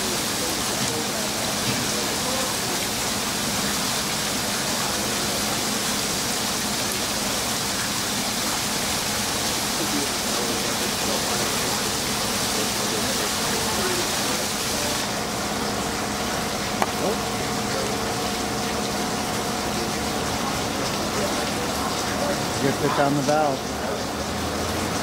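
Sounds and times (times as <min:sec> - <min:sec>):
water pouring and gushing: 0:00.0 - 0:25.0.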